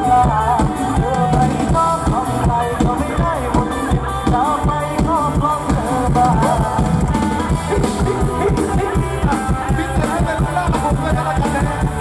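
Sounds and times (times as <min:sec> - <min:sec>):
live band music through pa: 0:00.0 - 0:12.0
steady drum beat: 0:00.0 - 0:12.0.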